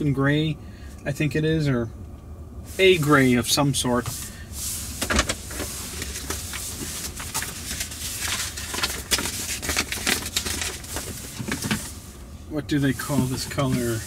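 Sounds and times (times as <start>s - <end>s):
road and tyre rumble: 0.0s - 14.0s.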